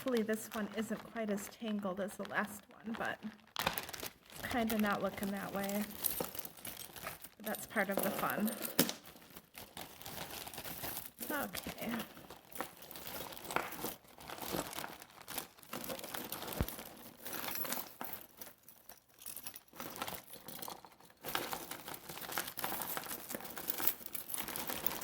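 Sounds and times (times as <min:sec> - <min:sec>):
jewelry chains and beads rattling: 0:00.0 - 0:25.0.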